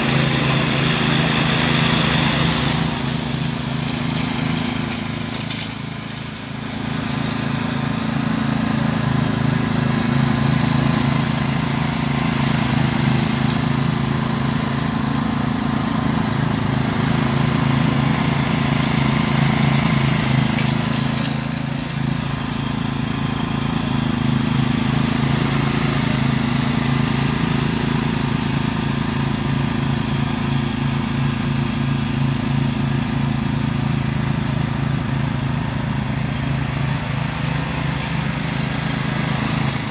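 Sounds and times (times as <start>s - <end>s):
riding mower running: 0.0s - 39.9s.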